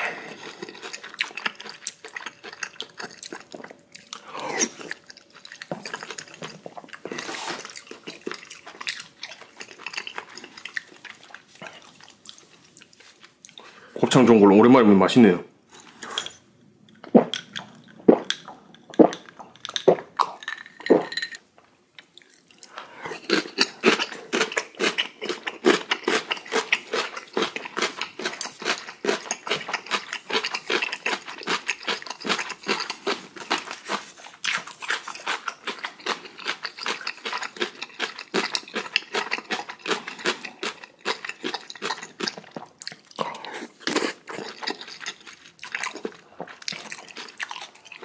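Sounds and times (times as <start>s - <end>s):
person chewing food: 0.0s - 13.8s, 22.0s - 48.0s.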